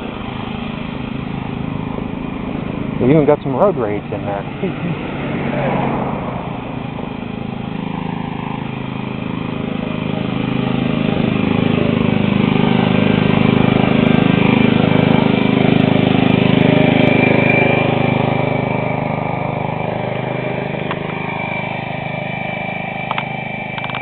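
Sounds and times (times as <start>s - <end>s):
riding lawn mower engine: 0.0s - 24.0s.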